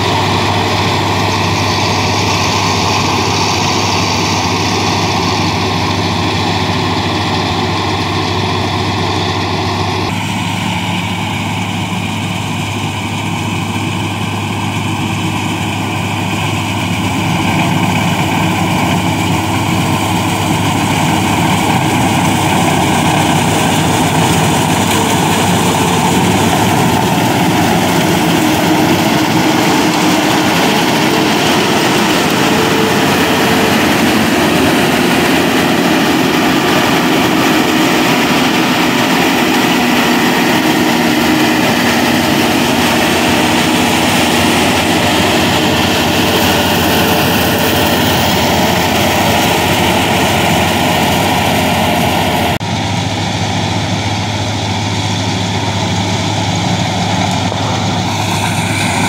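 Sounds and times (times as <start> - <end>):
diesel engine under load: 0.0 - 59.0
straw chopper and belt drives churning: 0.0 - 59.0.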